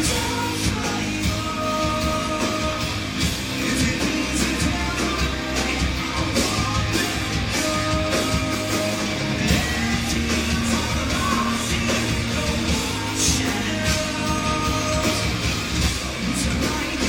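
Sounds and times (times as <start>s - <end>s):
distorted electric guitars: 0.0s - 17.0s
drums: 0.0s - 17.0s
man singing lead vocal: 0.0s - 17.0s.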